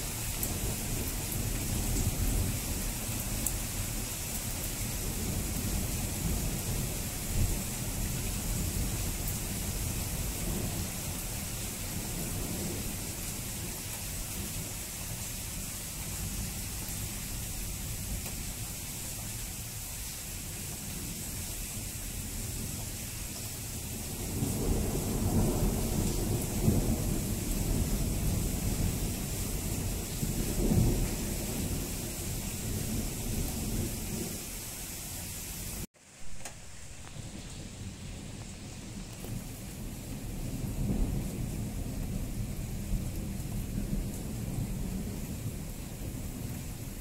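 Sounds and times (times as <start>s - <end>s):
low rumble of thunder: 0.0s - 34.8s, 36.9s - 47.0s
heavy rain falling: 0.0s - 47.0s.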